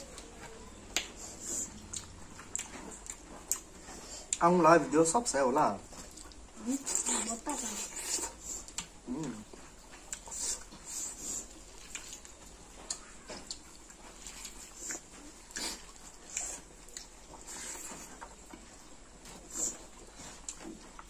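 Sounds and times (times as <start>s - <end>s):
wet chewing and lip-smacking: 0.0s - 4.6s, 5.3s - 21.0s.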